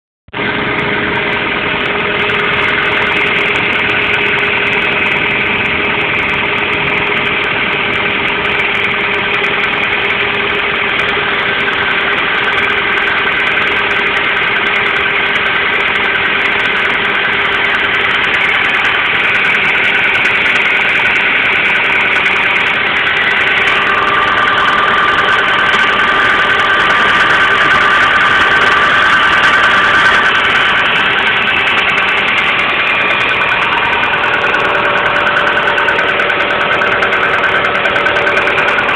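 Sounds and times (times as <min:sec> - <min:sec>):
car engine idling: 0:00.3 - 0:38.9
steady ringing tones: 0:00.5 - 0:38.9.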